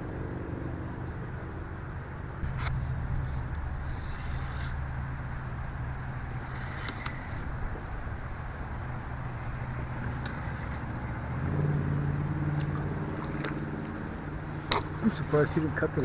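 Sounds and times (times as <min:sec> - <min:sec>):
distant engine humming: 0:00.0 - 0:16.0.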